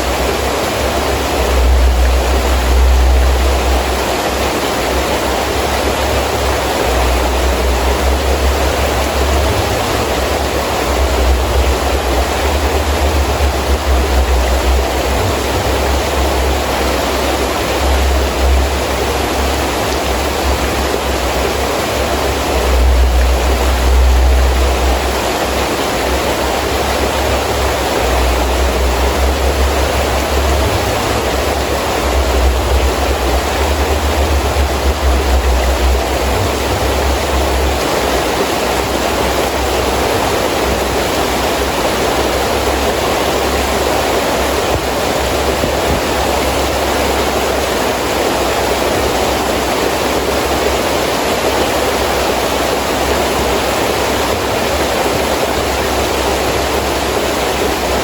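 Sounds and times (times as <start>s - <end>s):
wind gusts rumbling: 0.0s - 49.7s
heavy rain falling: 0.0s - 58.0s.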